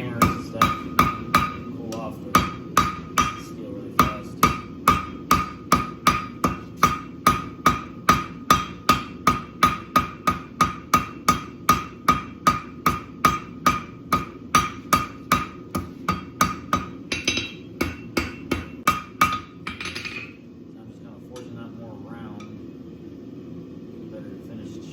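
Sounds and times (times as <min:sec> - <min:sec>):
hammer striking steel on anvil: 0:00.0 - 0:20.4.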